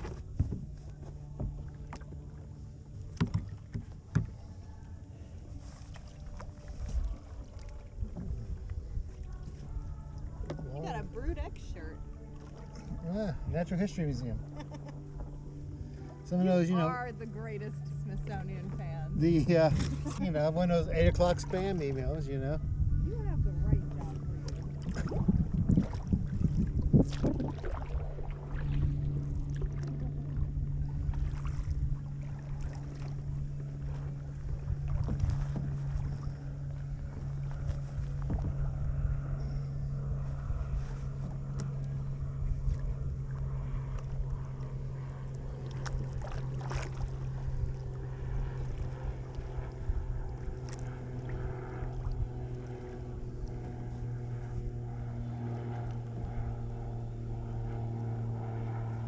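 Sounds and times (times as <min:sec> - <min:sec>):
paddle strokes in water: 0:00.0 - 0:22.3, 0:23.1 - 0:59.0
steady low hum: 0:00.0 - 0:59.0
wind on microphone: 0:03.1 - 0:14.5, 0:17.5 - 0:59.0.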